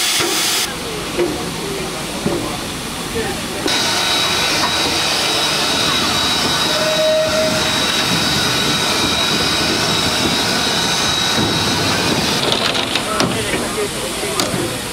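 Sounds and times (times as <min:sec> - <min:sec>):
steam locomotive exhaust and running gear: 0:00.0 - 0:14.9.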